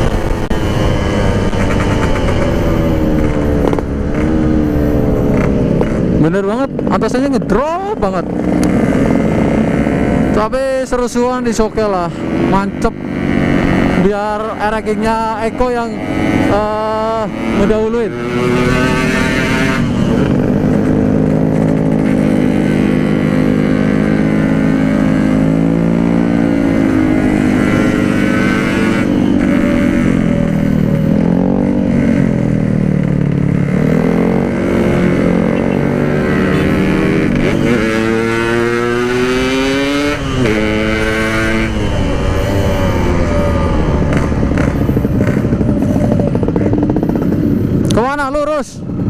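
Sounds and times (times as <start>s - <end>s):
two-stroke engine revving: 0.0s - 49.0s.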